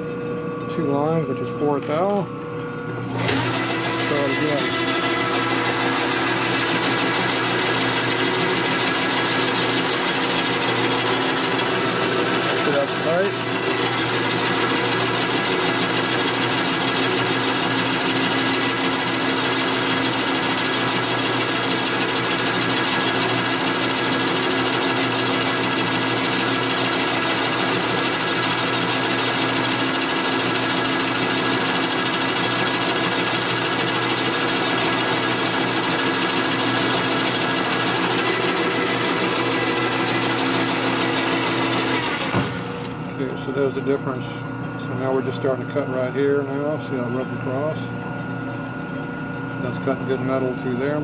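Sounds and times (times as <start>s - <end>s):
metal lathe running with whine: 0.0s - 51.0s.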